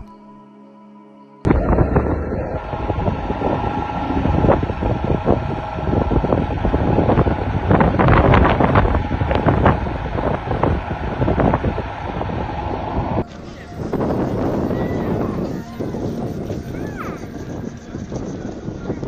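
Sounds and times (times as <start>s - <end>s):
gusty wind buffeting microphone: 1.5s - 19.0s.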